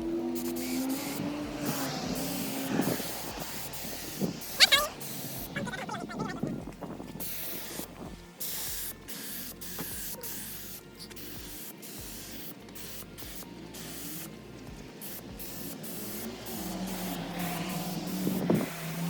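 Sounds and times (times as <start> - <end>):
air spray hissing: 0.0 - 19.0.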